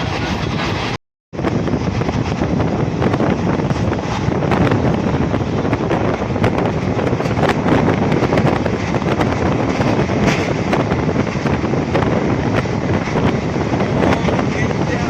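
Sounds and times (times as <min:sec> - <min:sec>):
vehicle engine rumbling: 0:00.0 - 0:15.0
wind buffeting microphone: 0:00.0 - 0:15.0.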